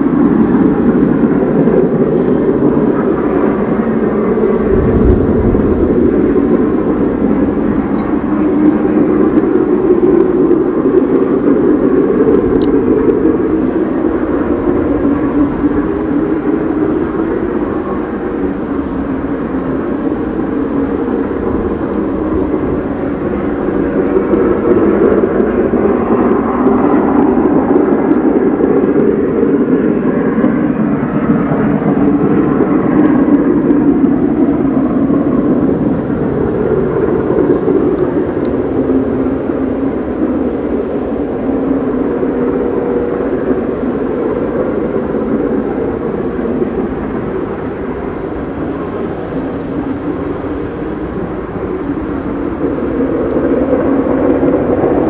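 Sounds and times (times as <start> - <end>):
distant steam locomotive exhaust roar: 0.0 - 55.0.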